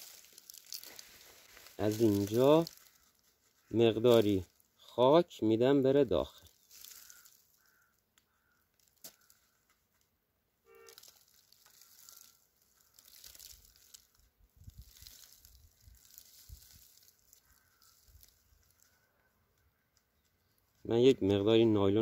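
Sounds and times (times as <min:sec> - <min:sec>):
soil crumbling and rustling: 0:00.0 - 0:05.0, 0:05.9 - 0:10.1, 0:10.7 - 0:22.0.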